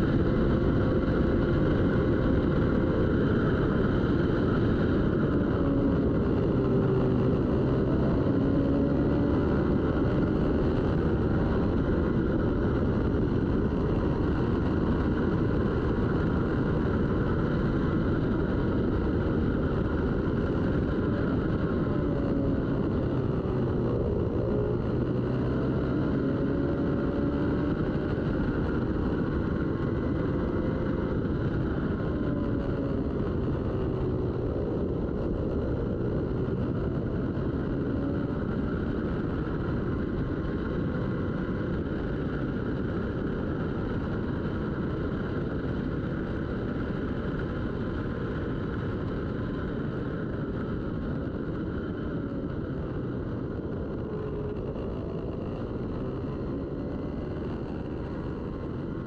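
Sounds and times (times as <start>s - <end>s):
dense rush of noise: 0.0s - 59.0s
racing motorcycle engines: 0.0s - 59.0s.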